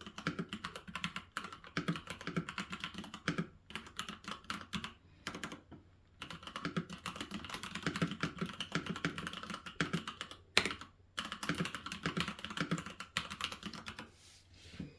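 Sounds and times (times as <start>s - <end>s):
typing on a computer keyboard: 0.0s - 14.1s.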